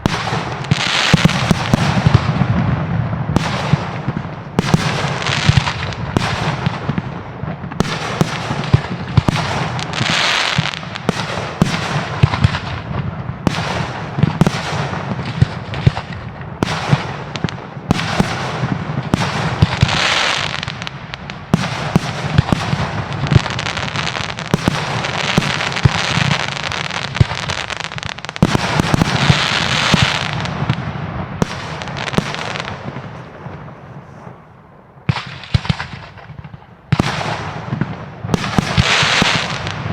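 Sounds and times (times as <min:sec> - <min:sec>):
fireworks bursts and bangs: 0:00.0 - 0:39.9
fireworks crackling: 0:00.0 - 0:39.9.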